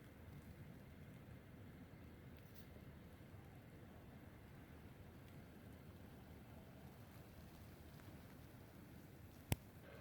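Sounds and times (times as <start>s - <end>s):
faint low outdoor rumble: 0.0s - 10.0s.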